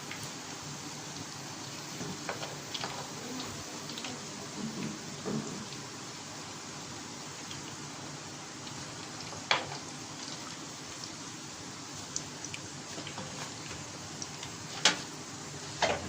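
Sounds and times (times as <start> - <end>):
oil sizzling and crackling: 0.0 - 16.0.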